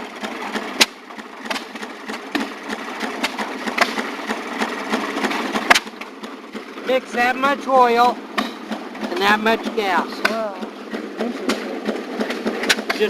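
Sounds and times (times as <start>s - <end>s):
two-stroke engine clattering: 0.0s - 13.0s.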